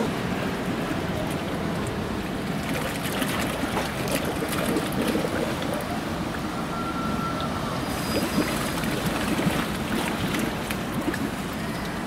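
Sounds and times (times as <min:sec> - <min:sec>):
fountain water splashing: 0:00.0 - 0:12.0
low street rumble: 0:00.0 - 0:12.0.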